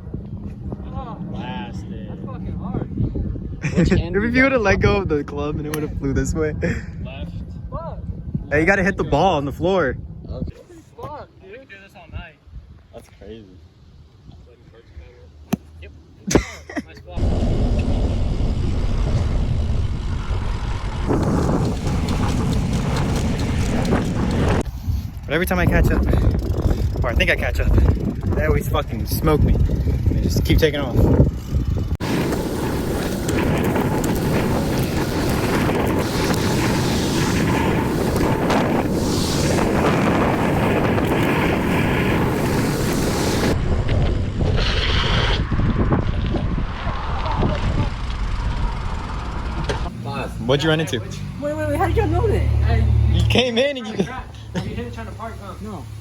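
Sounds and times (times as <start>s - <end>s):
wind buffeting microphone: 0.0s - 10.6s, 17.2s - 52.6s.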